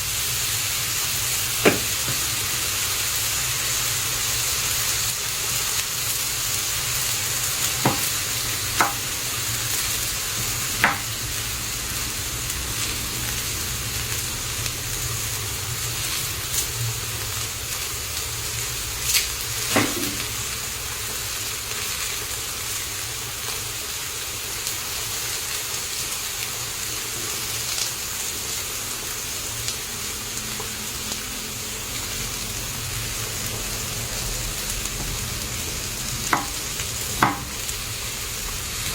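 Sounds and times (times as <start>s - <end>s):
meat sizzling in a pan: 0.0s - 38.9s.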